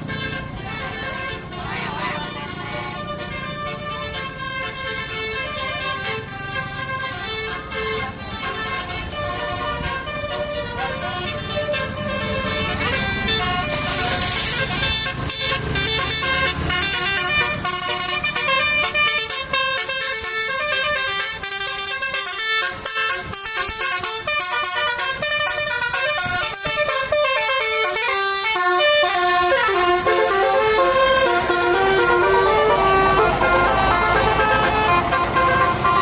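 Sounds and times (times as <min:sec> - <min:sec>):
musical air horn melody: 0:00.0 - 0:36.0.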